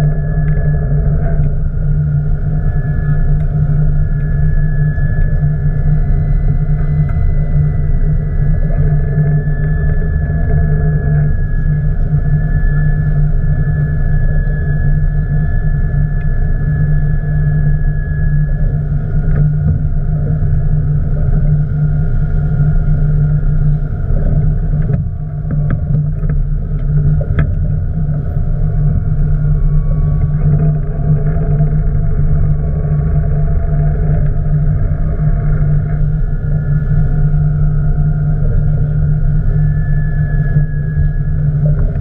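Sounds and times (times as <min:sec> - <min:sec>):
boat engine humming: 0:00.0 - 0:42.0.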